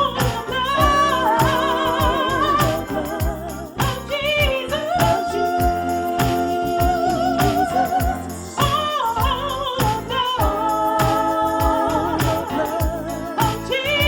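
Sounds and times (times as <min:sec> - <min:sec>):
jingling percussion: 0:00.0 - 0:14.0
person singing with vibrato: 0:00.0 - 0:14.0
steady beat: 0:00.0 - 0:14.0.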